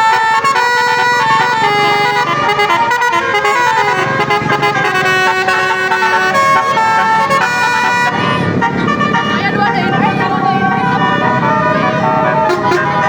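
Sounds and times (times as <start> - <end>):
multi-note air horn playing a tune: 0.0 - 9.9, 10.5 - 13.0.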